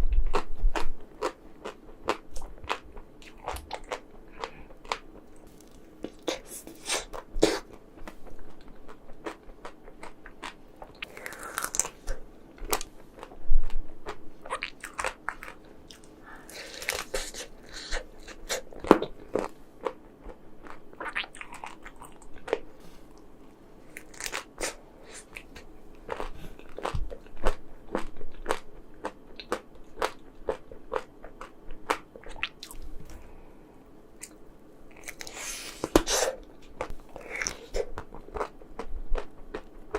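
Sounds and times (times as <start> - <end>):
crunching and chewing ice cream: 0.2 - 22.7, 23.9 - 32.9, 34.2 - 39.9.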